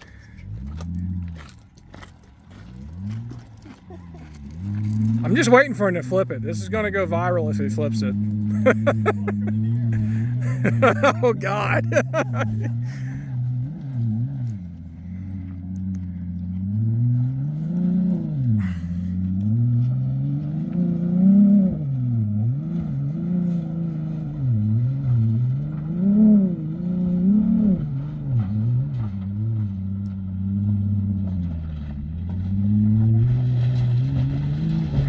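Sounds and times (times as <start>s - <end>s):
engine revving under load: 0.0s - 1.6s, 2.5s - 35.0s.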